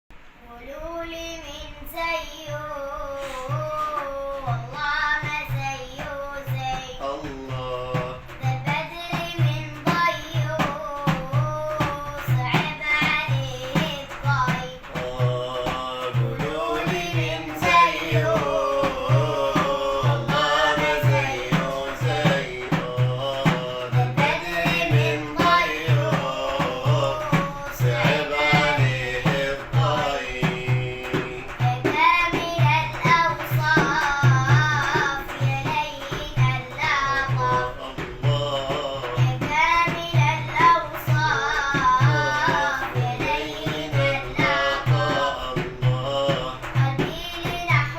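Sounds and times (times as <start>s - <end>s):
girl singing: 0.4s - 22.8s, 23.4s - 45.9s, 46.5s - 47.9s
steady drum beat: 2.5s - 47.9s.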